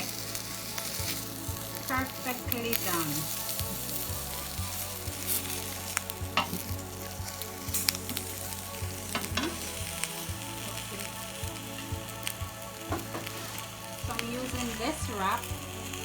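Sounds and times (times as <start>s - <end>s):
chicken sizzling on grill pan: 0.0s - 16.0s.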